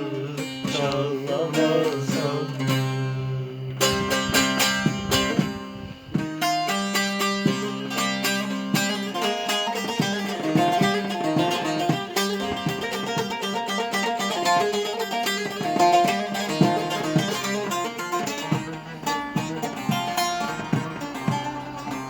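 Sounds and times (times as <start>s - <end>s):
plucked string instrument melody: 0.0s - 22.0s.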